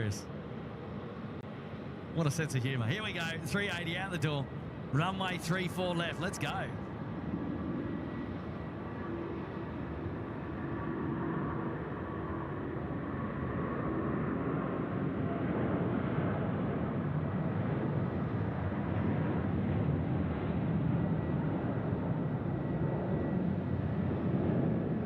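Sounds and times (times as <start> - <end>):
jet engines deep rumbling: 0.0 - 25.0.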